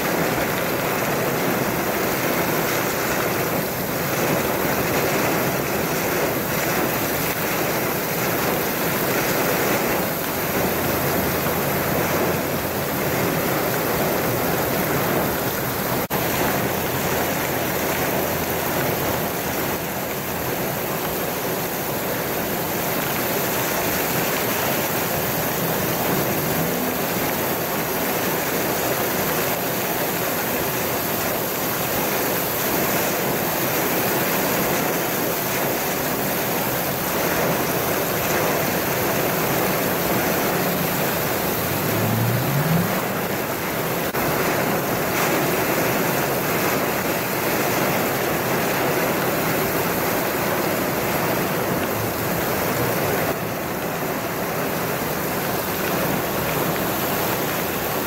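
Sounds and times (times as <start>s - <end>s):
heavy rain on pavement: 0.0s - 58.0s.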